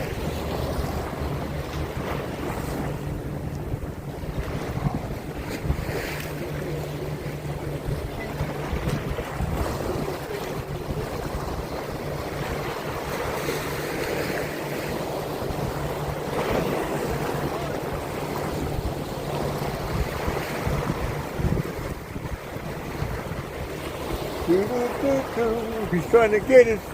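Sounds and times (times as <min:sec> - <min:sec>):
water sloshing around boat: 0:00.0 - 0:26.9
wind buffeting microphone: 0:00.0 - 0:26.9.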